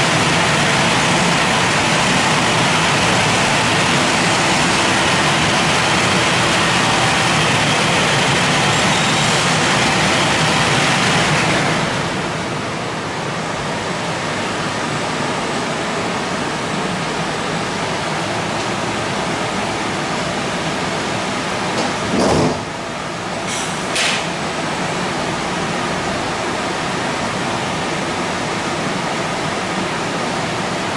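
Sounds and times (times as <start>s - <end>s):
car wash dryer blowers rushing: 0.0s - 30.9s.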